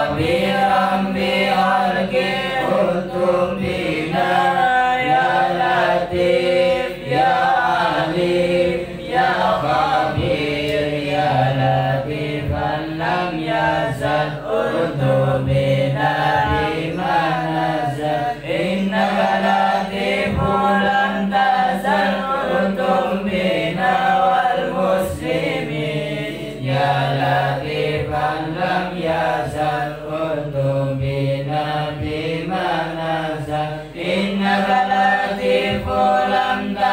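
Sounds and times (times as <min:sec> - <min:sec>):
men chanting together: 0:00.0 - 0:36.9.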